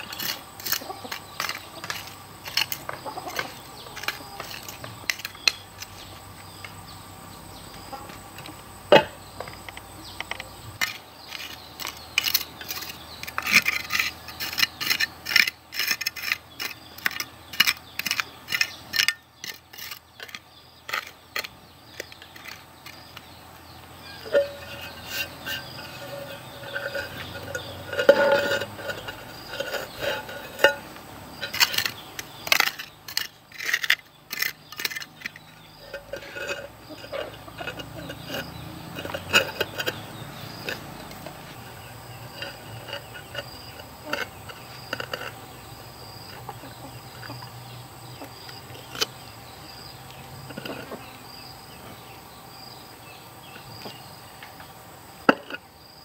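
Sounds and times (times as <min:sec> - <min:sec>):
trowel scraping soil: 0:00.0 - 0:06.6, 0:07.7 - 0:51.5
stone pavers clacking: 0:00.0 - 0:06.9, 0:07.6 - 0:51.4, 0:53.6 - 0:55.7.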